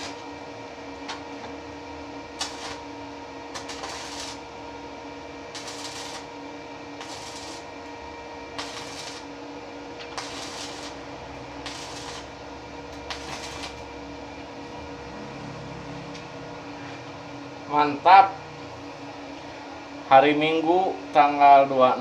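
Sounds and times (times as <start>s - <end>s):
machine humming: 0.0s - 21.2s.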